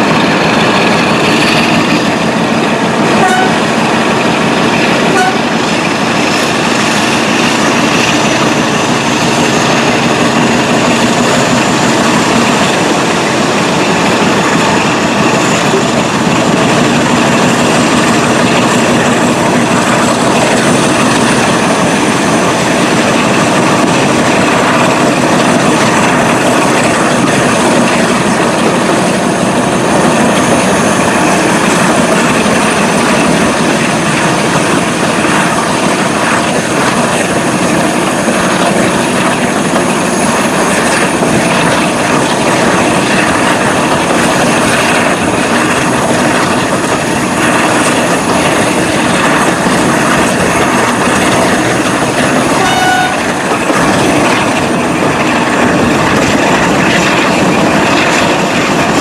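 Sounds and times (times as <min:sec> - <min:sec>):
diesel locomotive engine working hard: 0:00.0 - 0:59.0
train wheels on rails: 0:00.0 - 0:59.0.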